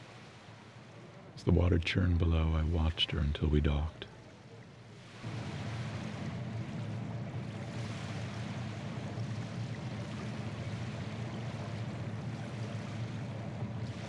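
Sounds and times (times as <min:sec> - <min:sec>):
water churning along hull: 0:00.0 - 0:14.0
low engine rumble: 0:01.0 - 0:04.6, 0:05.2 - 0:14.0.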